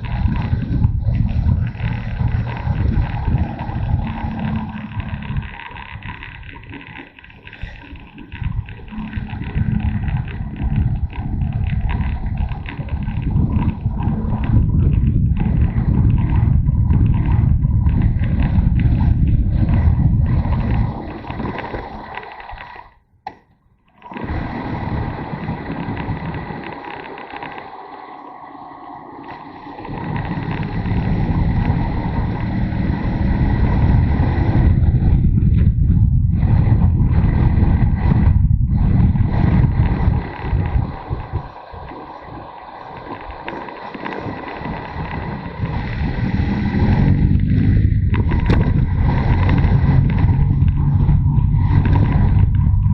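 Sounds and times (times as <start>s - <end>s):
motorcycle engine running: 0.0s - 22.8s, 24.0s - 52.9s
wind buffeting microphone: 0.0s - 23.2s, 24.0s - 52.9s.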